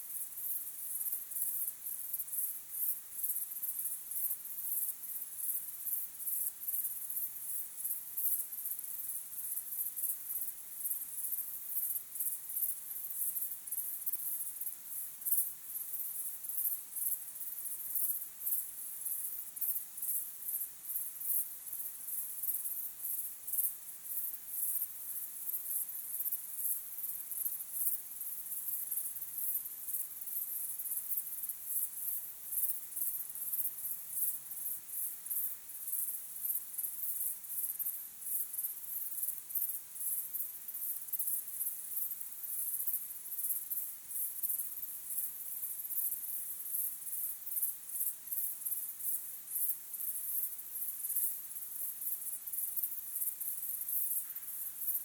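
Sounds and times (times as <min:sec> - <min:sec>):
crickets chirping: 0:00.1 - 0:55.0.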